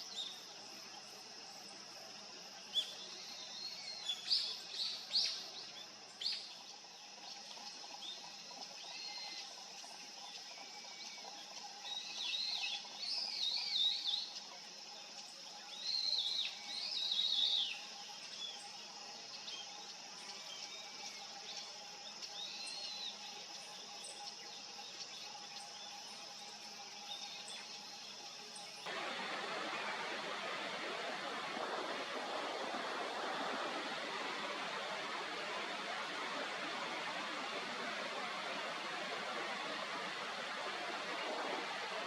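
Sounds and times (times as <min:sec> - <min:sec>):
background hiss: 0:00.0 - 0:42.0
faint steady hum: 0:00.0 - 0:42.0.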